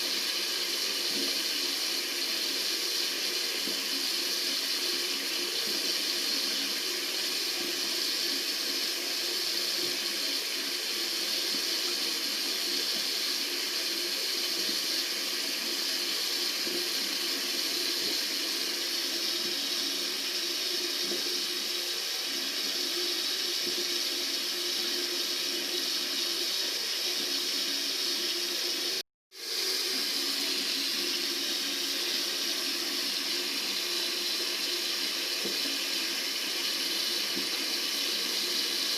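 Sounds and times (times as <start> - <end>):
tap water running: 0.0 - 38.9.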